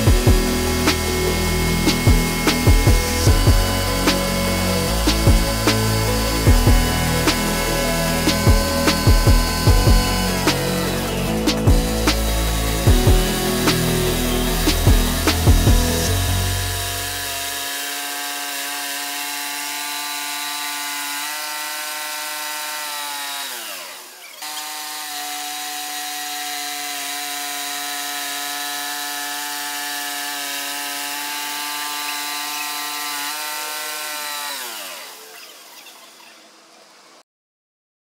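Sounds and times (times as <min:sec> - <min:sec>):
band sawmill cutting log: 0:00.0 - 0:37.2.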